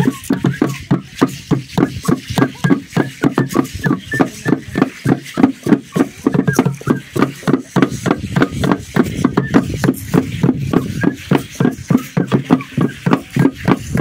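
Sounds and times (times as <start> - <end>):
drum beaten in dance rhythm: 0.0 - 14.0.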